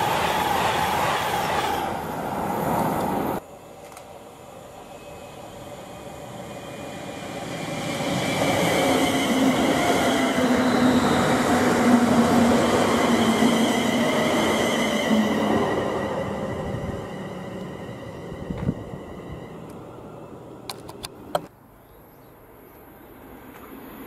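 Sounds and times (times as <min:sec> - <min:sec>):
train running past: 0:00.0 - 0:20.8.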